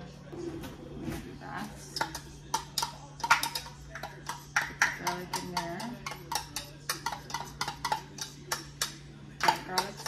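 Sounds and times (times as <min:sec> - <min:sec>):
kitchenware knocking on pot: 0:01.9 - 0:10.0.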